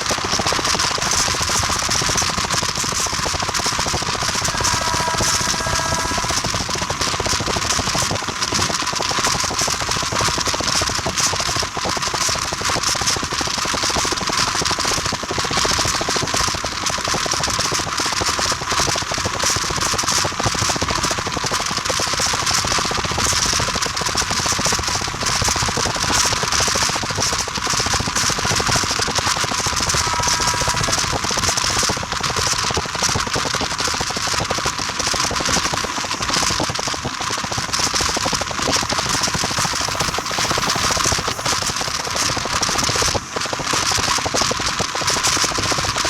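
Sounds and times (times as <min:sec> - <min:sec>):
train rattling and rushing: 0:00.0 - 0:16.6, 0:17.2 - 0:46.0.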